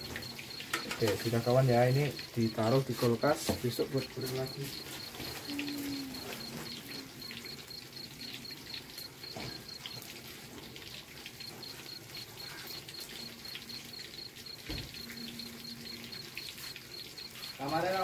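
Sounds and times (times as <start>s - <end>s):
bananas frying in hot oil: 0.0s - 18.0s
cricket chirping trill: 0.0s - 18.0s.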